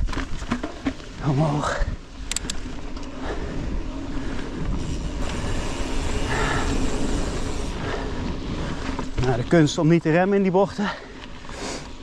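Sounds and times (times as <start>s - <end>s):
bike tyres rumbling on dirt trail: 0.0s - 12.0s.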